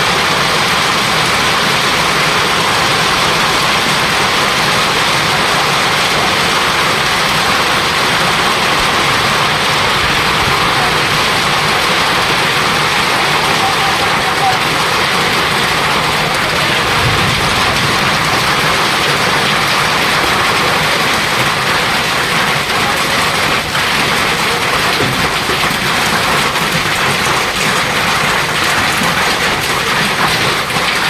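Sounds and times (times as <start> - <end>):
heavy hail clattering: 0.0 - 31.0.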